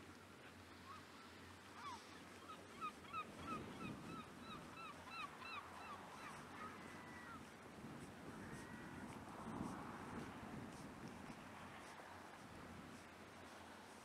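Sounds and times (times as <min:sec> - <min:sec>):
faint wind: 0:00.0 - 0:14.0.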